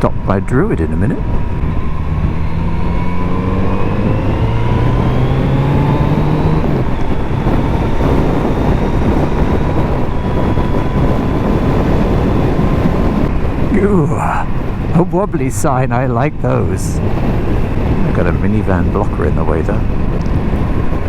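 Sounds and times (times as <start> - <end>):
wind and road noise: 0.0 - 21.0
motorcycle engine accelerating: 1.0 - 15.0, 16.9 - 21.0.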